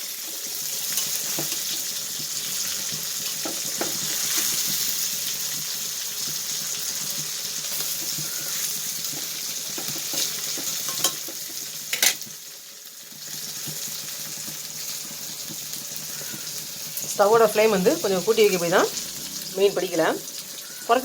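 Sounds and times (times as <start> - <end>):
fish sizzling in a pan: 0.0 - 21.0.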